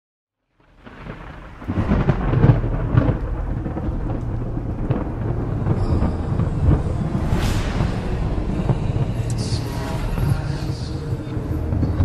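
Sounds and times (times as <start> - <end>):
thunder rumbling: 0.6 - 12.0.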